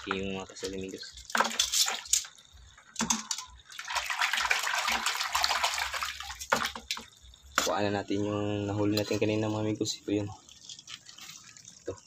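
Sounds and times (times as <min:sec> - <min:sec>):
water splashing in buckets: 0:00.0 - 0:12.0.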